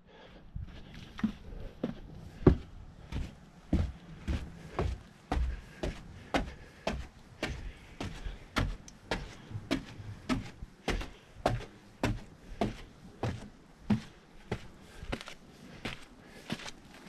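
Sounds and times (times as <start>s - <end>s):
footsteps walking: 0.6s - 17.0s.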